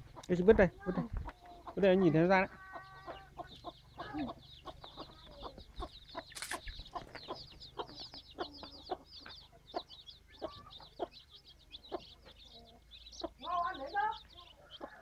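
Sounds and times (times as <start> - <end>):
chicks peeping: 0.0 - 15.0
hen clucking: 0.0 - 15.0.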